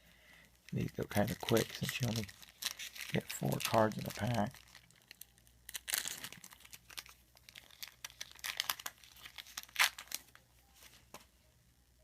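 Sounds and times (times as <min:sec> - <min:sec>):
foil wrapper tearing and crinkling: 0:00.7 - 0:10.4.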